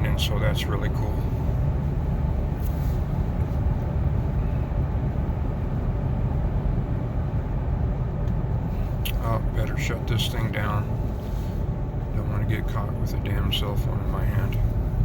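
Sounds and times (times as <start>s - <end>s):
road and engine noise in car cabin: 0.0s - 15.0s.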